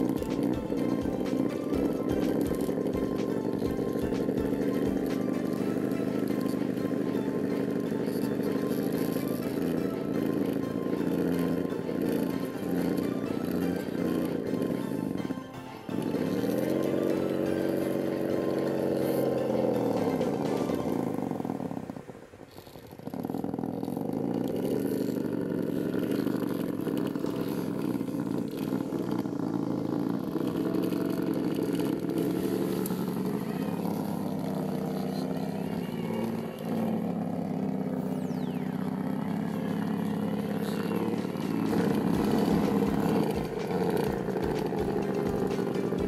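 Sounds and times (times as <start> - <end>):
electric motor whining: 0.0 - 46.0.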